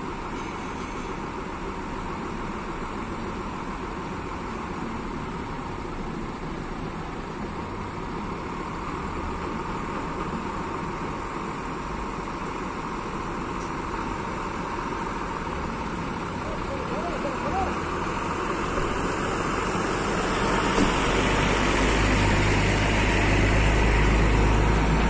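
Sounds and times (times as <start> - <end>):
diesel bus engine driving slowly: 0.0 - 25.0.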